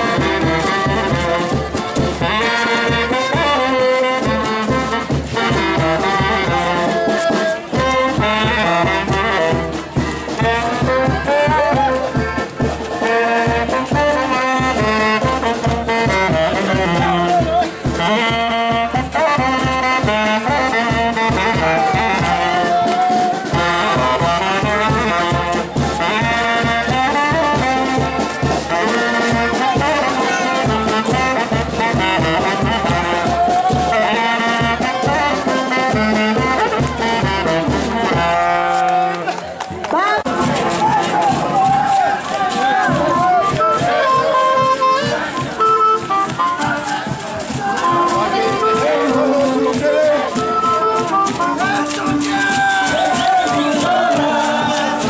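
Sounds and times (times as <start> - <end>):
horn melody: 0.0 - 39.4, 40.2 - 55.0
bass drum beat: 0.0 - 55.0
brass band playing: 0.0 - 55.0.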